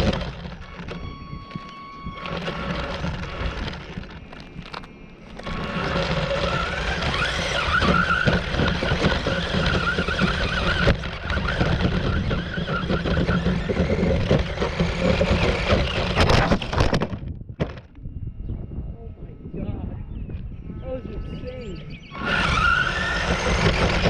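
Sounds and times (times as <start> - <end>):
rc car motor whining: 0.0 - 17.8, 20.6 - 24.0
rough continuous rumble: 0.0 - 24.0.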